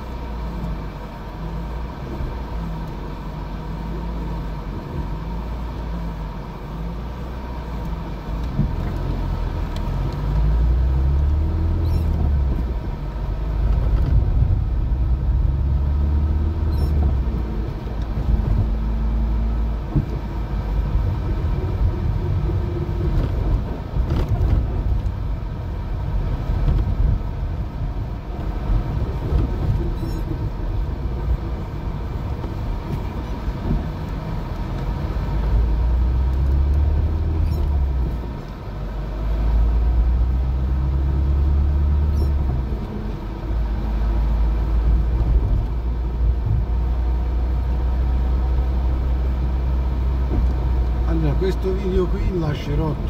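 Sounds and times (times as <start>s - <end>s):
car engine rumble: 0.0s - 53.0s
road and tyre noise: 0.0s - 53.0s.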